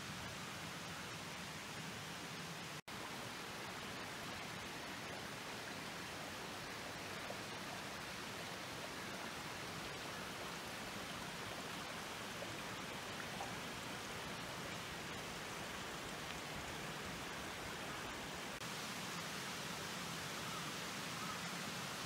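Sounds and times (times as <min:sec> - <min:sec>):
stream running: 0:00.0 - 0:22.0.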